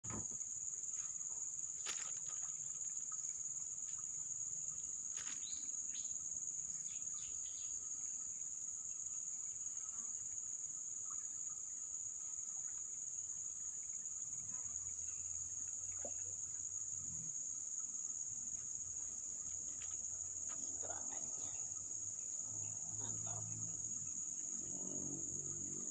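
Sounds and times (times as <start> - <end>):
insects buzzing: 0.1 - 25.9.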